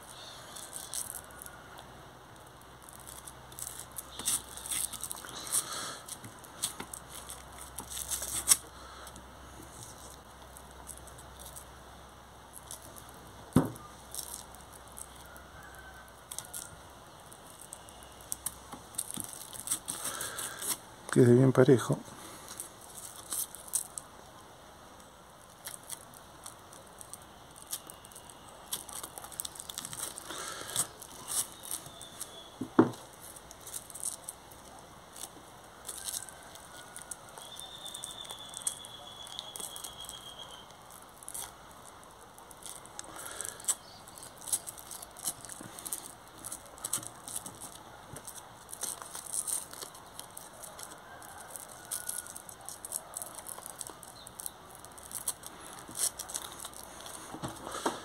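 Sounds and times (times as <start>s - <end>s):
hook-and-loop rustling and crackling: 0.0s - 24.2s, 24.8s - 58.0s.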